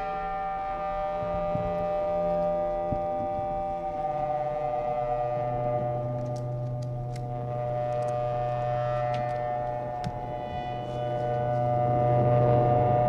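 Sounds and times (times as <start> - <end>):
low synthesizer note: 0.0 - 13.0
synthesizer drone: 0.0 - 13.0.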